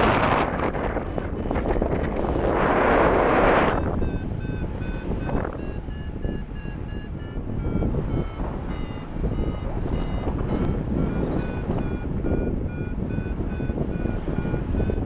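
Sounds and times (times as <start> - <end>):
variometer beeping: 0.0 - 15.0
wind noise on microphone: 0.0 - 15.0.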